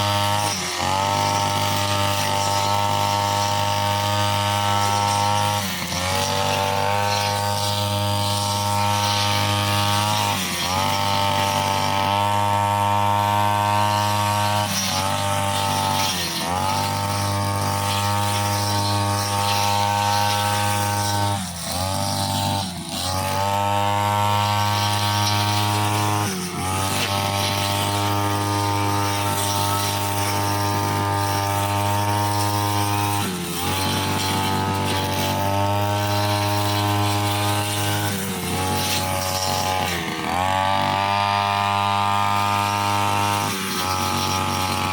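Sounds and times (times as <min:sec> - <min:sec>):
brushcutter engine at high revs: 0:00.0 - 0:44.9.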